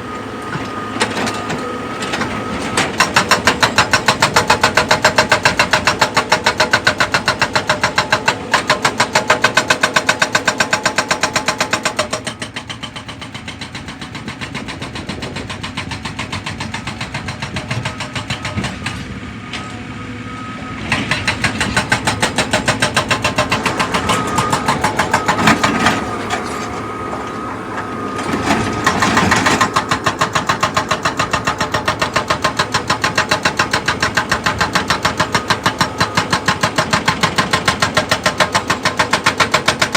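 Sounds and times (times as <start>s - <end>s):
excavator diesel engine pulsing: 0.0s - 39.9s.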